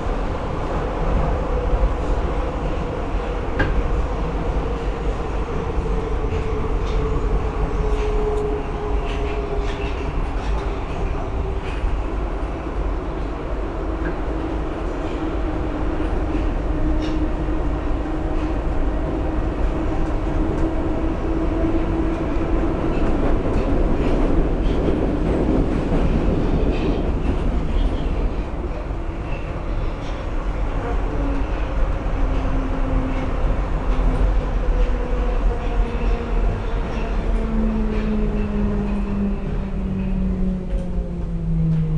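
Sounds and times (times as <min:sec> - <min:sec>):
metro train rumbling: 0:00.0 - 0:41.9.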